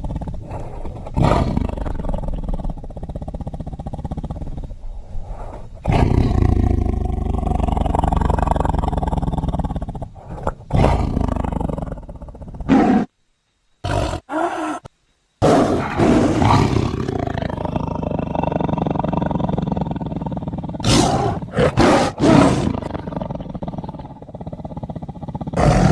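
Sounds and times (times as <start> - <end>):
tiger roars: 0.0 - 13.1, 13.8 - 25.9.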